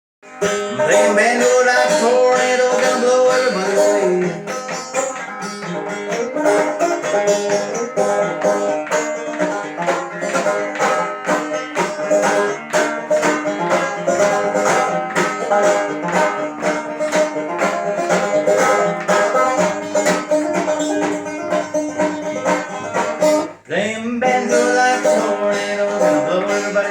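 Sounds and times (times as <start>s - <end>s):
banjo picked fast: 0.2s - 26.9s.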